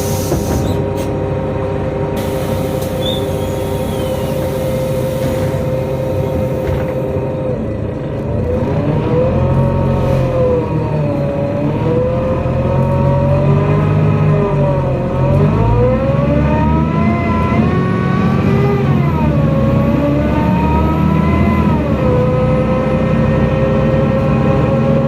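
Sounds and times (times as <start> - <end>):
bus engine droning: 0.0 - 25.0.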